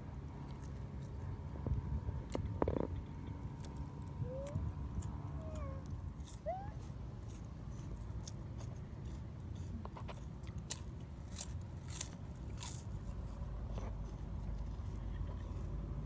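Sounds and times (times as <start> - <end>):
cracker crunching and chewing: 0.0 - 16.0.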